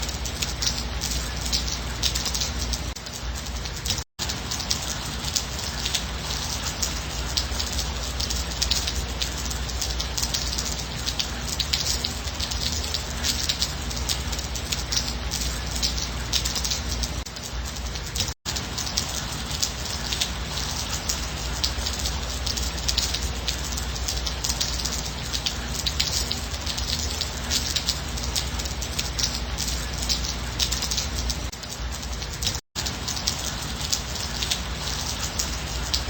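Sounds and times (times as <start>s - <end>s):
gentle rain falling: 0.0s - 36.0s.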